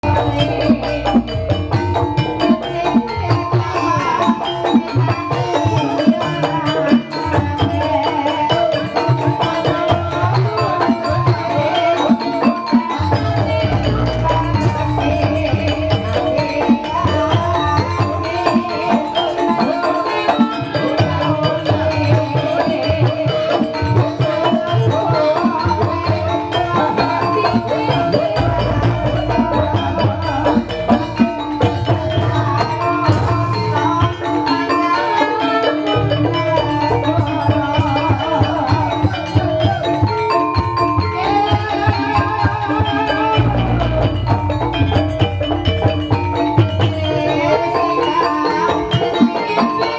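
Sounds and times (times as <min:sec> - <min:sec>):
hand drum: 0:00.0 - 0:49.9.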